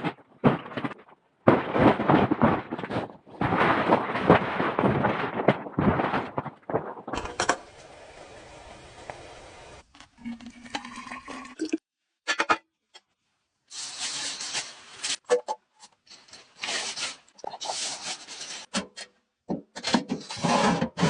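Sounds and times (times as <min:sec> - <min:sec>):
rubbing and scraping: 0:00.0 - 0:10.8, 0:13.7 - 0:19.0, 0:19.8 - 0:21.0.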